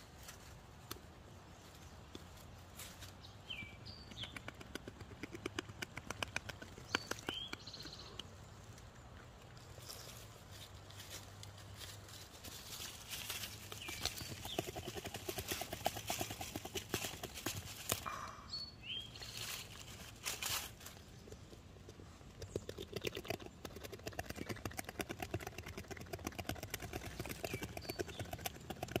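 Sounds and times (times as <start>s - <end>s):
beaver gnawing a twig: 4.0s - 12.0s, 12.6s - 18.3s, 19.3s - 29.0s.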